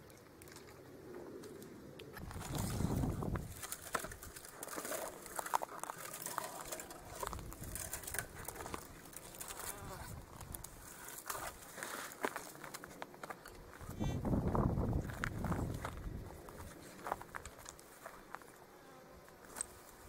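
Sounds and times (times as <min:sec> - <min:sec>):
dry brush rustling and crackling: 0:01.5 - 0:18.6, 0:19.2 - 0:20.0
gravel crunching underfoot: 0:02.1 - 0:18.6.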